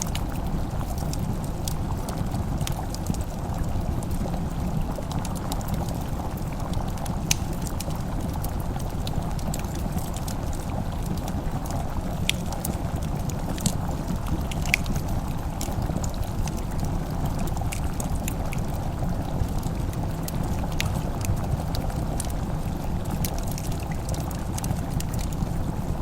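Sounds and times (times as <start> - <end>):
fireplace crackling: 0.0 - 26.0.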